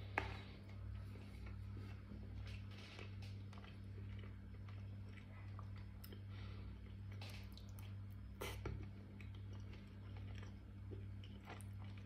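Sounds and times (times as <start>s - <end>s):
person chewing: 0.0s - 12.0s
steady low hum: 0.0s - 12.0s.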